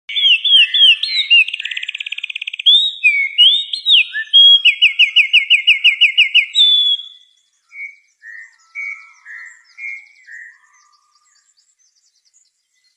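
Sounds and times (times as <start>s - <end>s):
songbird singing: 0.1s - 12.9s.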